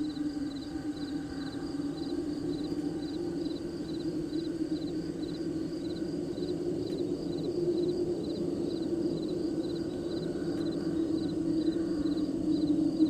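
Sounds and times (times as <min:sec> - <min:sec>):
cricket chirping trills: 0:00.0 - 0:13.0.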